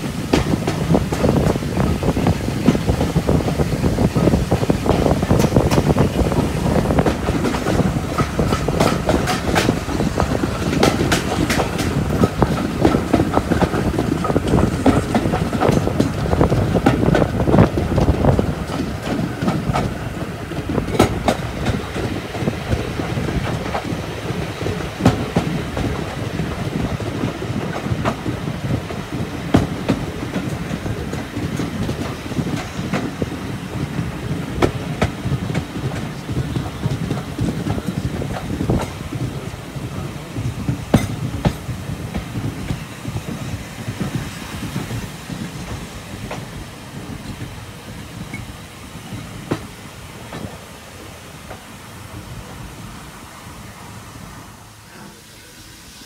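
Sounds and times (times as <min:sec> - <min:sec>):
train wheels rumbling: 0:00.0 - 0:56.0
wheels clicking over rail joints: 0:00.1 - 0:50.7.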